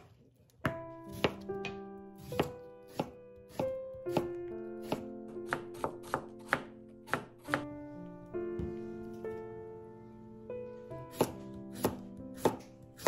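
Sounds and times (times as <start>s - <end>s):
soft piano-like background music: 0.6s - 13.0s.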